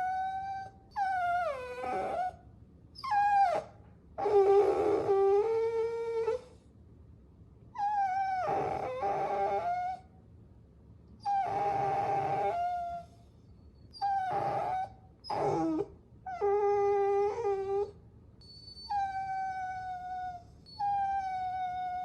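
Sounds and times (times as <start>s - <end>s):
puppy whining: 0.0s - 2.4s, 3.0s - 6.6s, 7.8s - 10.1s, 11.2s - 22.0s.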